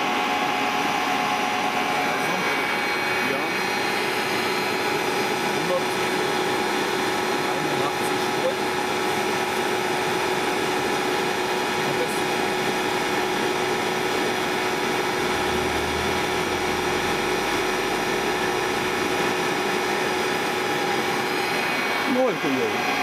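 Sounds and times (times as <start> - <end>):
motor-generator humming: 0.0 - 23.0.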